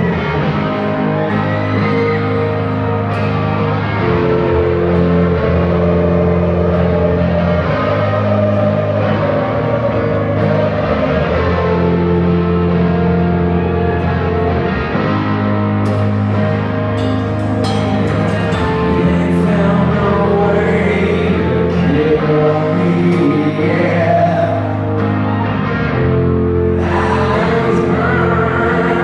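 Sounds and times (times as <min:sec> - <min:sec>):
electric guitar chords: 0:00.0 - 0:29.0
rock band playing: 0:00.0 - 0:29.0.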